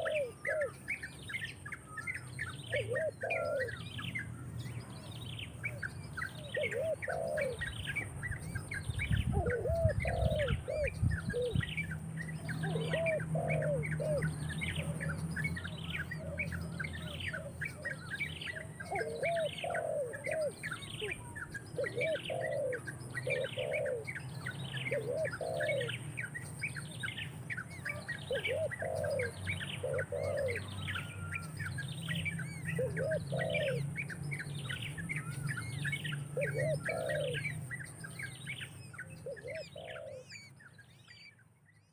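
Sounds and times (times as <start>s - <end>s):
lower short bird calls: 0.0s - 41.4s
high downward-sweeping bird call: 0.0s - 41.9s.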